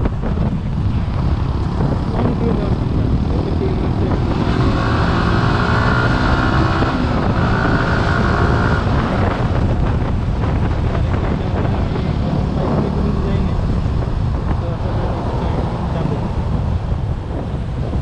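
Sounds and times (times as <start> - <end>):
motorcycle engine accelerating: 0.0 - 17.9
wind noise on microphone: 0.0 - 18.0.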